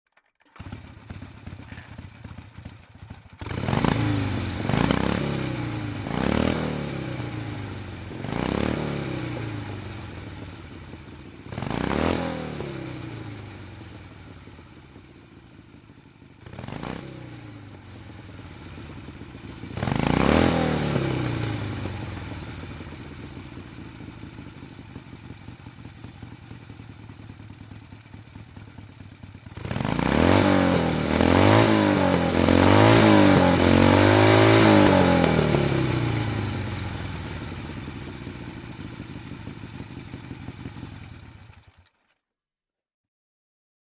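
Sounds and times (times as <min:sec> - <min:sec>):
motorcycle engine revving: 0:00.5 - 0:15.8, 0:16.4 - 0:41.9.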